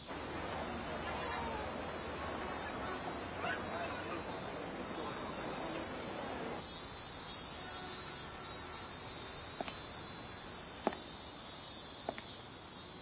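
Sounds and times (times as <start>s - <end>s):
high insect chirping: 0.0s - 13.0s
soft outdoor hush: 0.0s - 13.0s.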